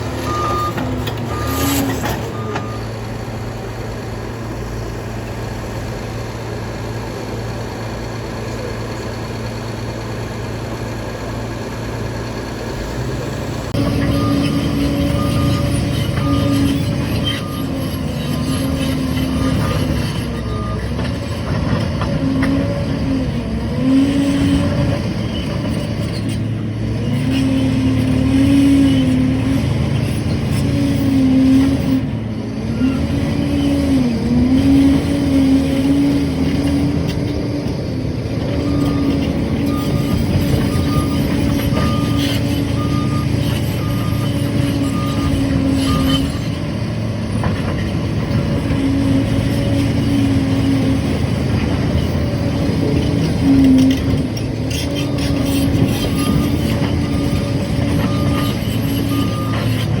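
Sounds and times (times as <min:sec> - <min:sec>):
dozer diesel engine running: 0:00.0 - 1:00.0.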